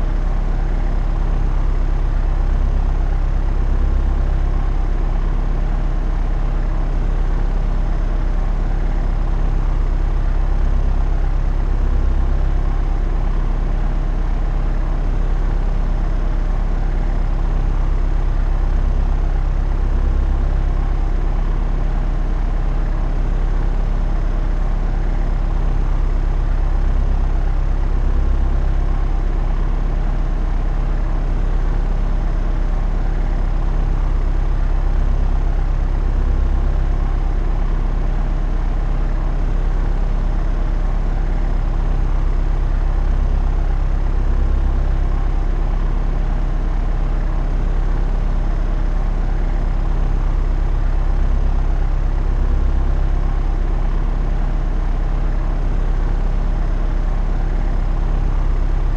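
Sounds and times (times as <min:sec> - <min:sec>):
propeller airplane engine drone: 0:00.0 - 0:58.9.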